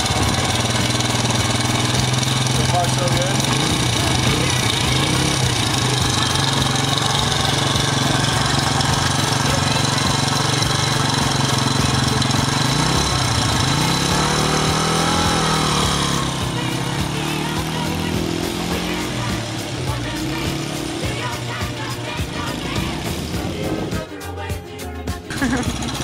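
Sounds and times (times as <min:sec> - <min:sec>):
dirt bike engine idling and revving: 0:00.0 - 0:26.0.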